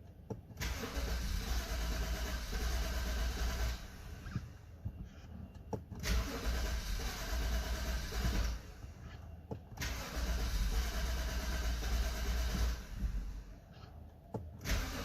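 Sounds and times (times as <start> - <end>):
car engine cranking on starter: 0.5 - 4.6, 6.0 - 13.6, 14.5 - 15.0.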